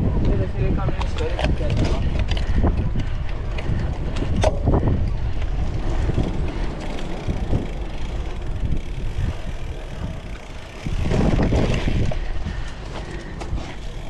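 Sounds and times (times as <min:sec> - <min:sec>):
bike knocks and rattles: 0:00.0 - 0:14.0
wind on microphone: 0:00.0 - 0:14.0
tyres on dirt: 0:00.1 - 0:14.0.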